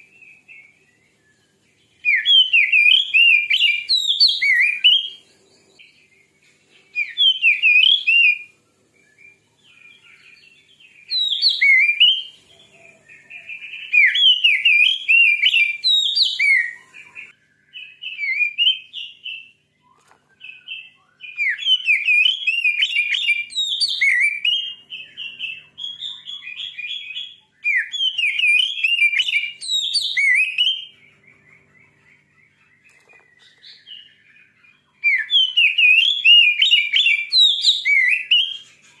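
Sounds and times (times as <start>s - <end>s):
bird singing whistles and chirps: 0.0s - 39.0s.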